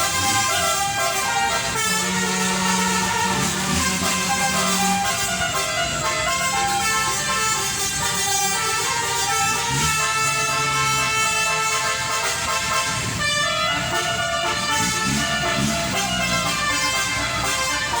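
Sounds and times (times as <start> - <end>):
bus engine running: 0.0 - 18.0
musical bus horn tune: 0.0 - 18.0.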